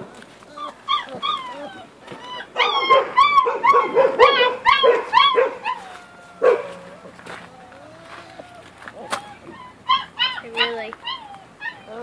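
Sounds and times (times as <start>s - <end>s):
puppy whining: 0.0s - 12.0s
puppy yelping: 0.5s - 12.0s.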